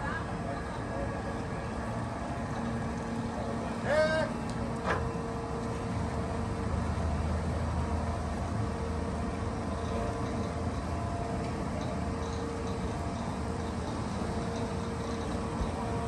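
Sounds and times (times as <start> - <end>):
faint constant whine: 0.0 - 16.0.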